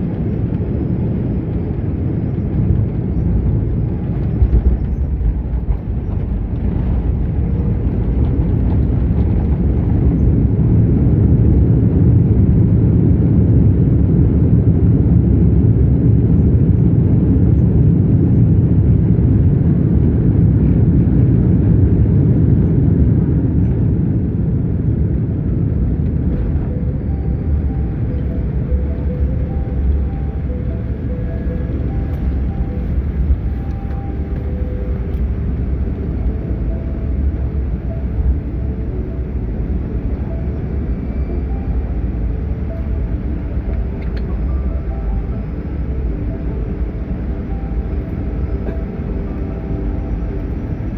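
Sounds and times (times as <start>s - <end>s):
airliner rumbling on runway: 0.0s - 50.9s.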